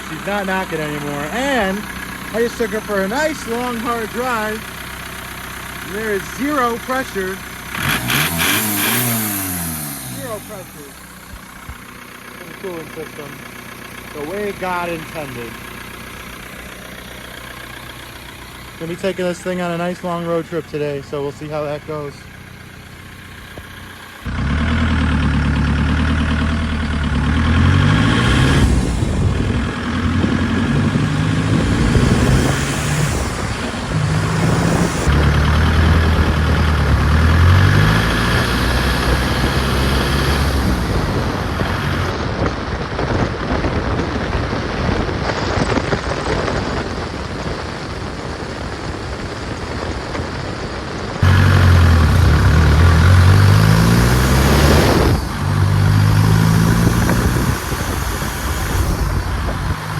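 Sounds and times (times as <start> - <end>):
diesel engine accelerating: 0.0 - 59.9.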